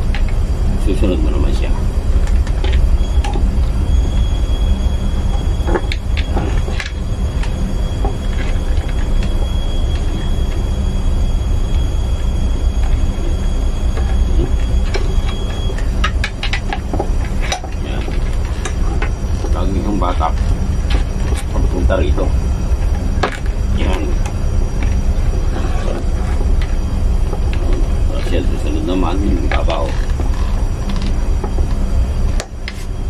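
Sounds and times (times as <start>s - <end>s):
faint high whine: 0.0s - 33.0s
low machinery hum: 0.0s - 33.0s.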